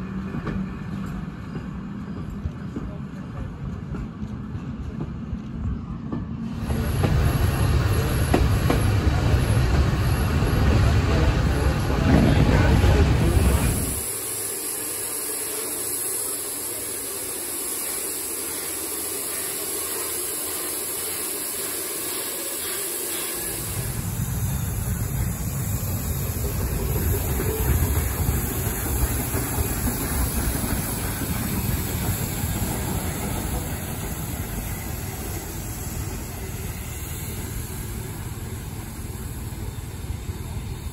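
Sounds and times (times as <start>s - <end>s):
steam hissing: 6.4s - 40.9s.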